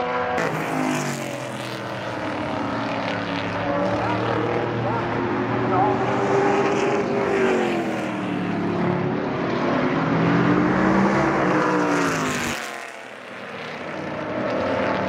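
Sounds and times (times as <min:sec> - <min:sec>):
race car engines running hard: 0:00.0 - 0:15.0.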